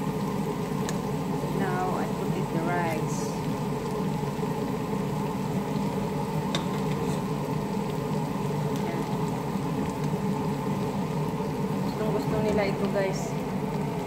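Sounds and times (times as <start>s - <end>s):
meat sizzling in a wok: 0.0s - 14.0s.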